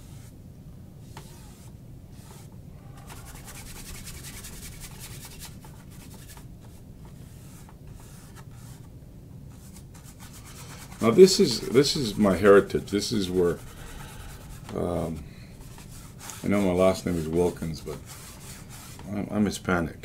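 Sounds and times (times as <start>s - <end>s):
brush stroking paint on canvas: 0.0s - 0.3s, 1.0s - 8.9s, 9.5s - 19.1s.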